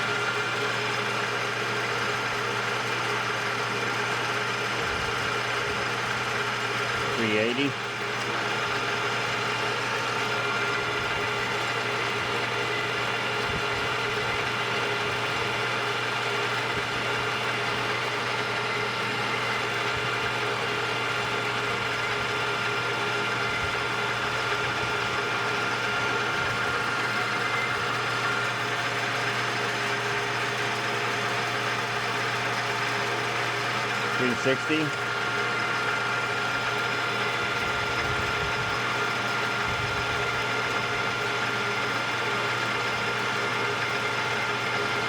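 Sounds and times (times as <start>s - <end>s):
metal lathe running: 0.0s - 45.0s.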